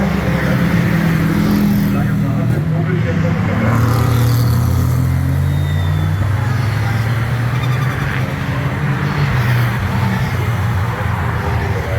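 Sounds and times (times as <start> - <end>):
race car engine rumbling: 0.0 - 11.9.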